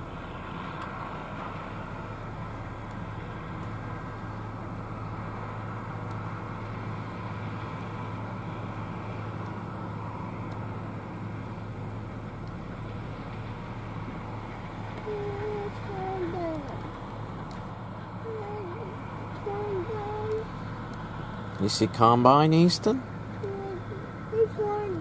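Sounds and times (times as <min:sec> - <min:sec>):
combine harvester running: 0:00.0 - 0:25.0
tractor engine hum: 0:00.0 - 0:25.0.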